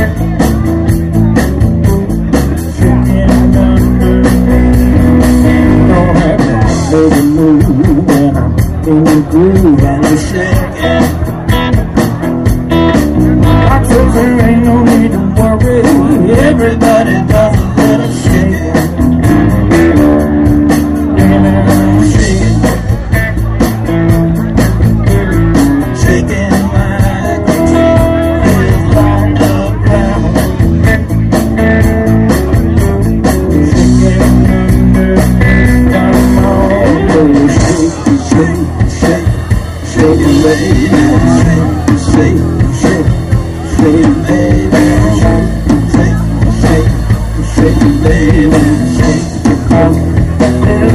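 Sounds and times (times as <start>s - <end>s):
drums keeping steady beat: 0.0s - 50.9s
rock band playing live: 0.0s - 50.9s.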